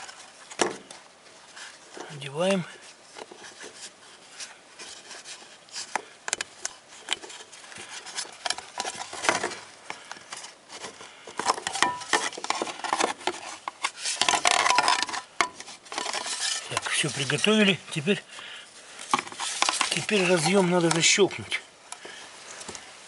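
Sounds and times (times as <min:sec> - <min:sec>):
hands rubbing and scraping connector: 0:00.0 - 0:18.3, 0:19.0 - 0:22.9.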